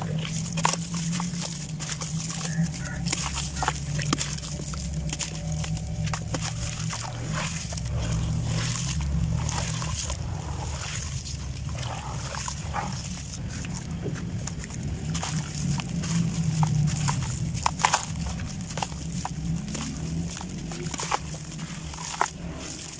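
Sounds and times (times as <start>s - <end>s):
grit crackling and pattering: 0.0s - 22.9s
hands squeezing wet sand: 0.0s - 22.9s
low hum: 0.0s - 22.9s
water sloshing and splashing: 0.0s - 22.9s.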